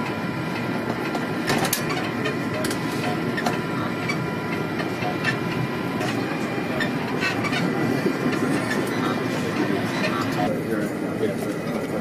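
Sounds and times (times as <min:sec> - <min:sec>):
machinery and ventilation hum: 0:00.0 - 0:12.0.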